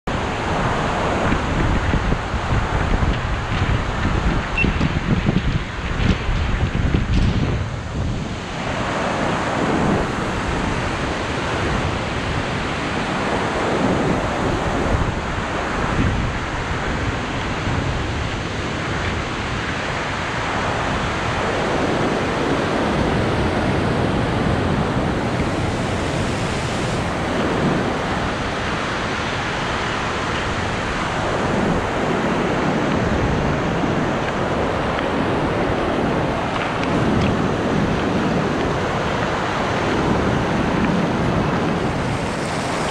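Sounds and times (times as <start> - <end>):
river rapids roaring: 0.1 - 42.9
wind buffeting microphone: 0.1 - 42.9.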